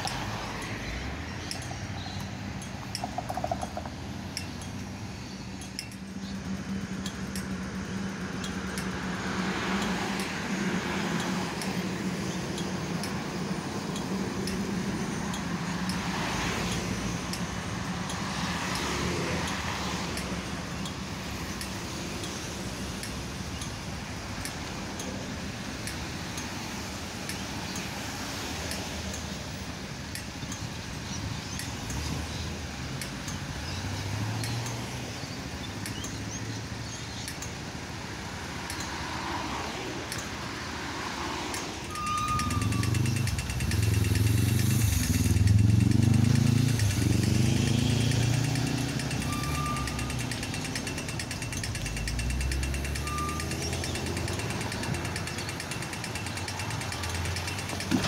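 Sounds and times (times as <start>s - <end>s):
cars passing: 0.0s - 58.0s
tram passing: 0.0s - 58.0s.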